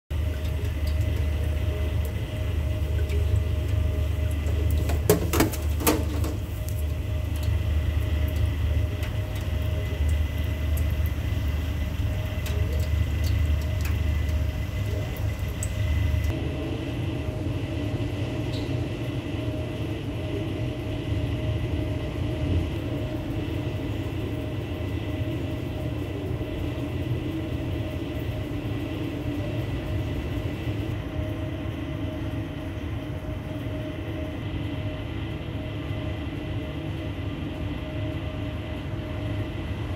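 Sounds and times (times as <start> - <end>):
motor humming with low rumble: 0.0 - 39.9.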